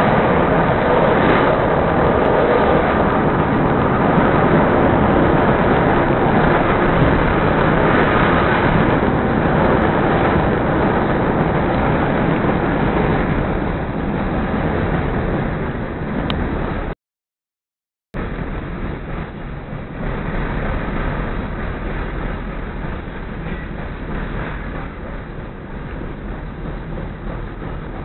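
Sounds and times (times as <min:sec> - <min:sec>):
train car running on track: 0:00.0 - 0:16.9, 0:18.2 - 0:28.0.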